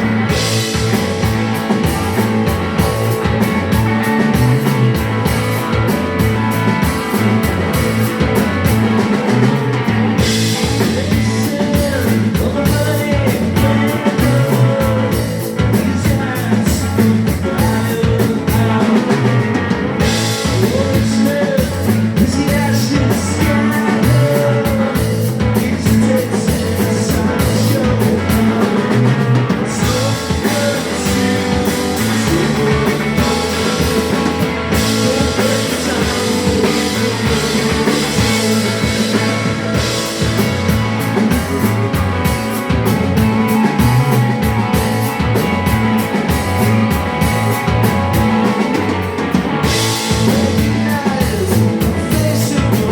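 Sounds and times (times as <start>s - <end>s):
drums: 0.0s - 52.9s
guitar: 0.0s - 52.9s
person singing: 10.2s - 52.9s.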